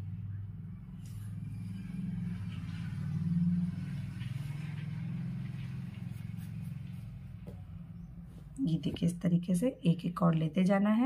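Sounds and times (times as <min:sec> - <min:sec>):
low engine-like rumble: 0:00.0 - 0:11.0.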